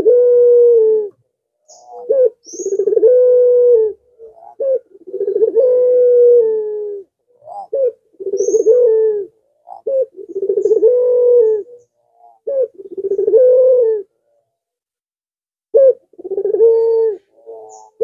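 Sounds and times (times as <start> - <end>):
dove cooing: 0.0 - 14.4, 15.7 - 18.0.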